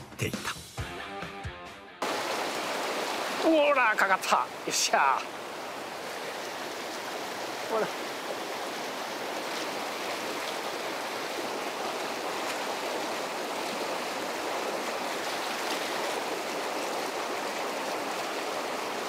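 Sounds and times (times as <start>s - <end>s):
river rushing over rocks: 2.0s - 19.0s.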